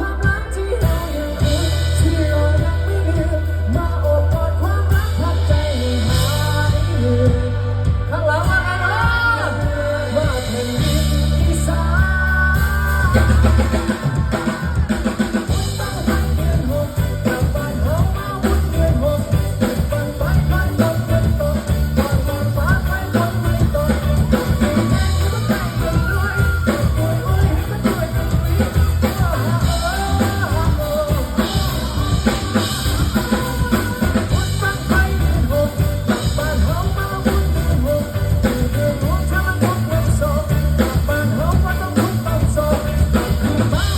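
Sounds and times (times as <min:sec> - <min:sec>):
bass guitar: 0:00.0 - 0:43.9
drum kit: 0:00.0 - 0:43.9
person singing: 0:00.0 - 0:43.9.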